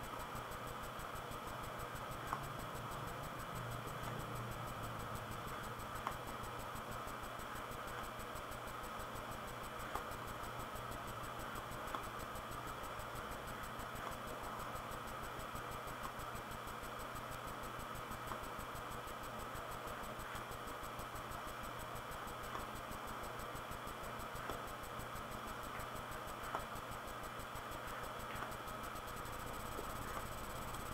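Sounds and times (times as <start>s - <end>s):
room tone hiss: 0.0s - 30.9s.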